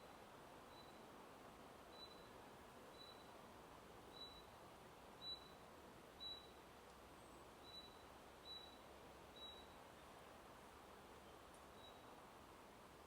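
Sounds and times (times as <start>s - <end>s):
wind in forest leaves: 0.0s - 13.0s.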